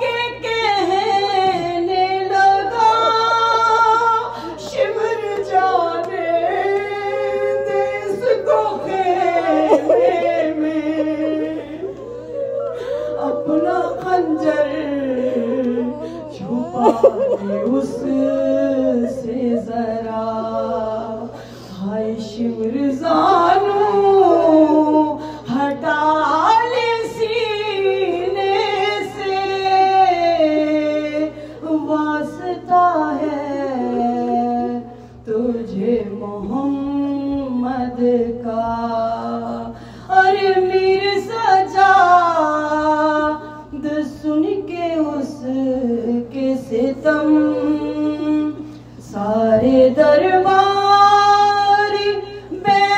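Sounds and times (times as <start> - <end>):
woman singing unaccompanied chant: 0.0 - 52.9.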